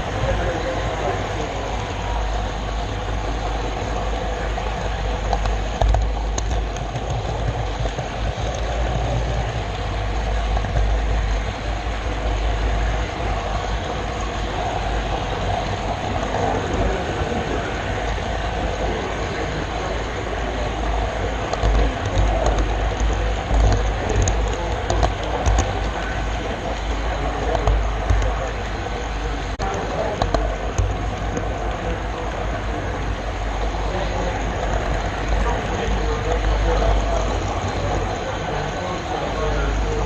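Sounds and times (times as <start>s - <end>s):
wheels rumbling on rail: 0.0s - 40.0s
faint clicks: 0.2s - 11.6s, 13.0s - 40.0s.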